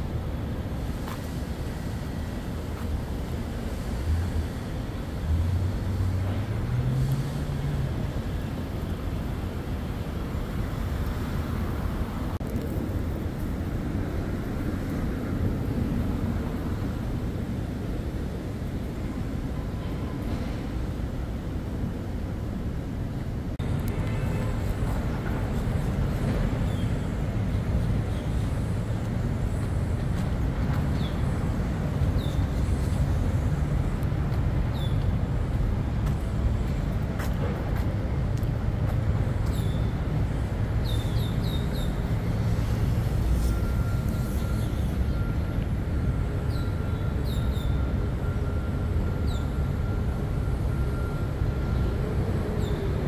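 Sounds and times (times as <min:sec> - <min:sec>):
vehicle rumble: 0:00.0 - 0:53.0.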